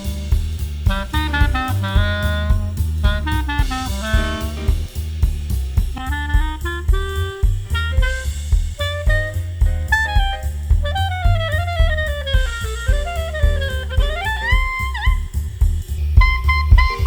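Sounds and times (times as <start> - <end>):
instrumental swing jazz: 0.0 - 17.0.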